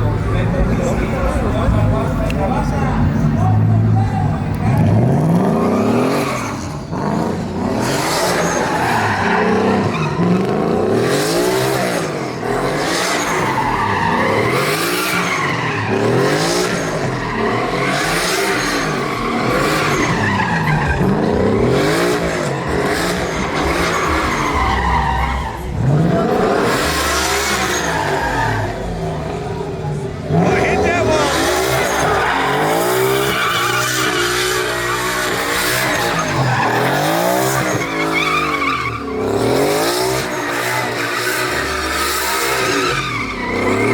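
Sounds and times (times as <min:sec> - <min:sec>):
tires squealing: 0:00.0 - 0:43.9
truck engine revving: 0:00.0 - 0:43.9.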